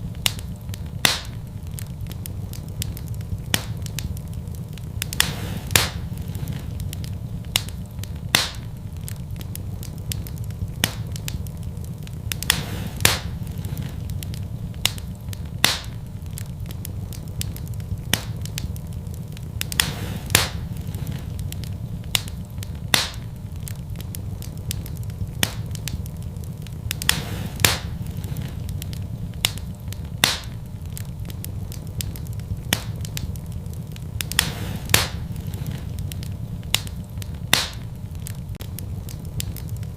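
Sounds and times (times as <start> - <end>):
low rumble: 0.0 - 39.9
wood fire crackling and popping: 0.0 - 39.9.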